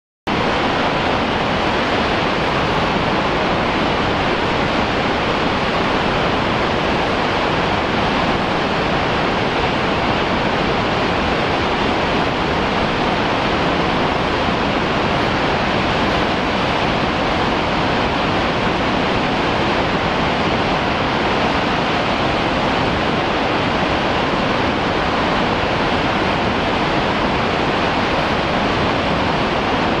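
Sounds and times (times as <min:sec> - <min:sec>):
waterfall rushing: 0:00.3 - 0:30.0.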